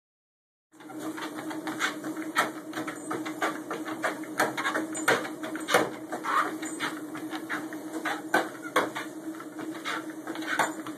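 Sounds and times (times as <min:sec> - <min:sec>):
treadmill motor hum: 0:00.8 - 0:10.9
dog paws tapping on belt: 0:01.1 - 0:10.9.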